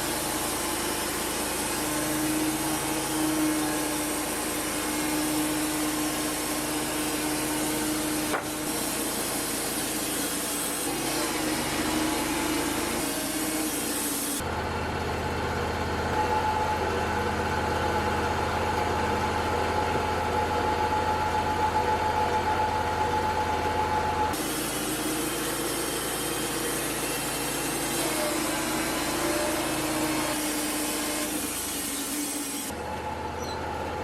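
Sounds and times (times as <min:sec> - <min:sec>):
band sawmill engine running: 0:00.0 - 0:34.0.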